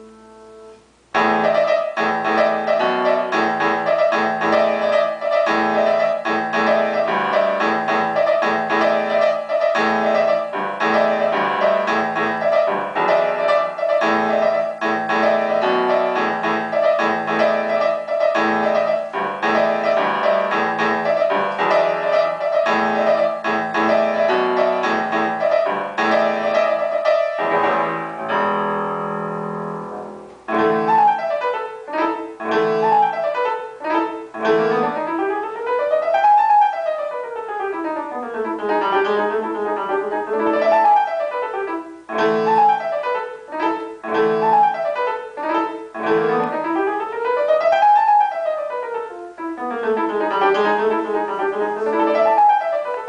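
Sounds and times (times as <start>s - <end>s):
solo grand piano: 0.0s - 53.0s.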